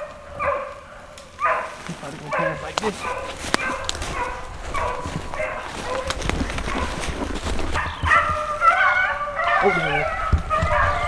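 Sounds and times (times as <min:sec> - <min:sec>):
dog baying: 0:00.0 - 0:11.0
footsteps crunching: 0:00.0 - 0:11.0
twigs snapping: 0:01.1 - 0:11.0.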